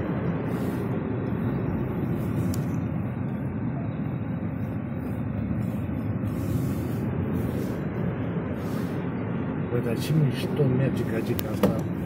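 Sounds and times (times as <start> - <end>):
fan blowing: 0.0 - 12.0
tyre and road noise: 0.0 - 12.0.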